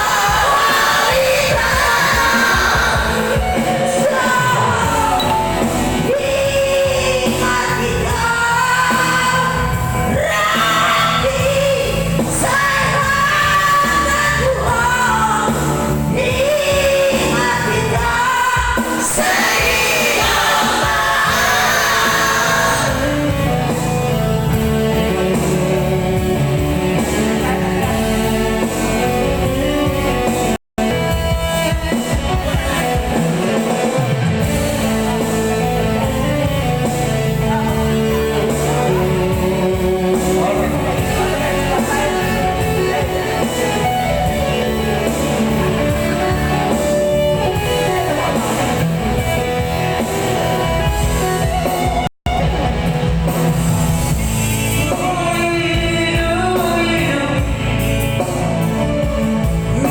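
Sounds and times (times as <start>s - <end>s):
song with guitar and singing: 0.0s - 59.9s.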